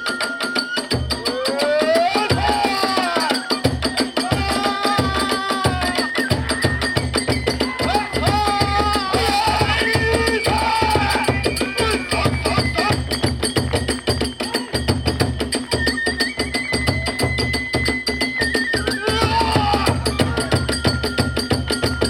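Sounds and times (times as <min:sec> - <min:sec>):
bamboo flute melody: 0:00.0 - 0:22.0.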